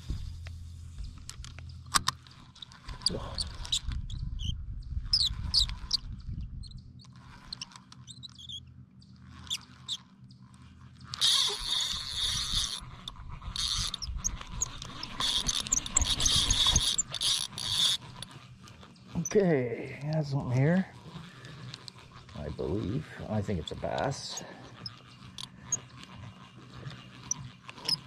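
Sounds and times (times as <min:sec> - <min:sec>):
fishing reel whirring: 0:01.4 - 0:28.0.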